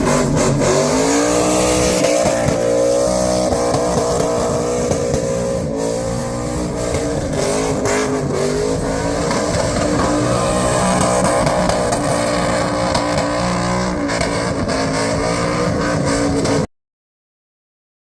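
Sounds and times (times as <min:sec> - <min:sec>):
car engine at high revs: 0:00.0 - 0:16.7.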